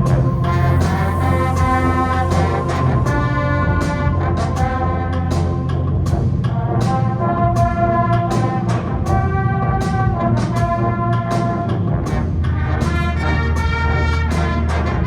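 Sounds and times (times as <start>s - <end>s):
brass ensemble playing chords: 0.0s - 15.0s
percussion strikes: 0.0s - 15.0s.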